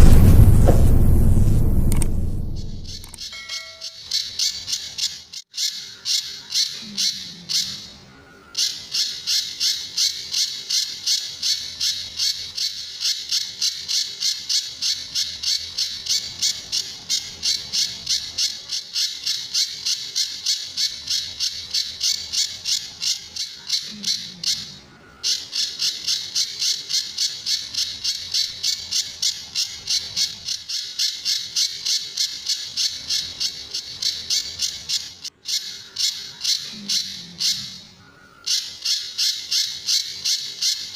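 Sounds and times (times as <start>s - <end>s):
songbird high-pitched calls: 3.2s - 40.9s.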